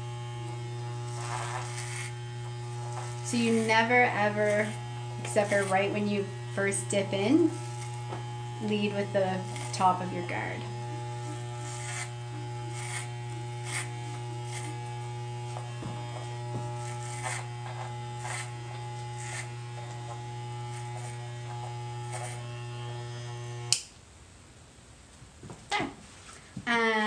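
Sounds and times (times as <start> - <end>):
electric hair clipper buzzing: 0.0 - 23.9.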